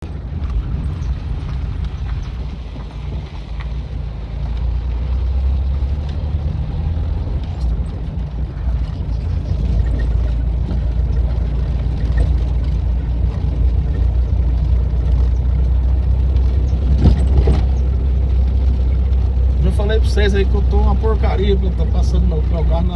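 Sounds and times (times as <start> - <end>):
car rumbling on dirt road: 0.0 - 22.9
suspension knocks and rattles: 0.0 - 22.9.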